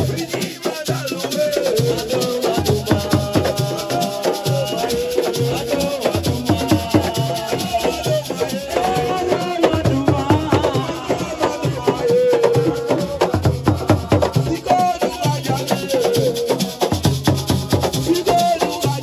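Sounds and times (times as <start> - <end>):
fast drum rhythm: 0.0 - 19.0
rattling shaker: 0.0 - 19.0.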